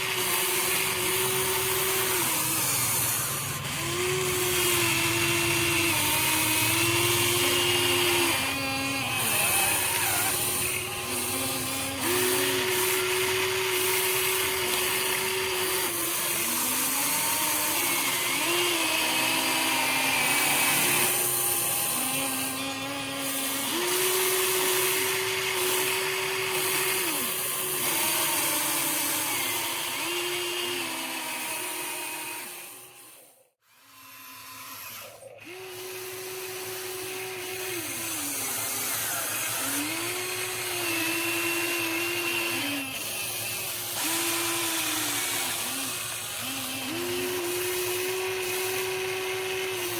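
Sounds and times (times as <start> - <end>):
electric motors whining: 0.0 - 49.9.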